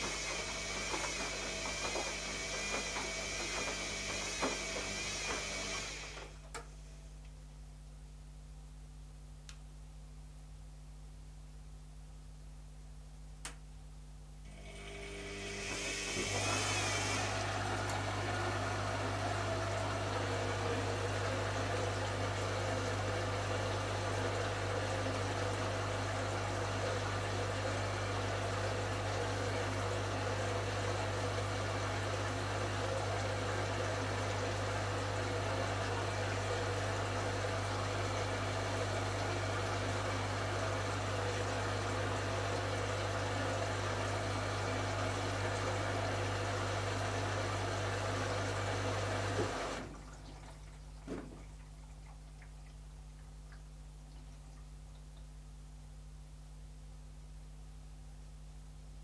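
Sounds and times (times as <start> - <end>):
washing machine running: 0.0 - 7.2, 14.4 - 55.3.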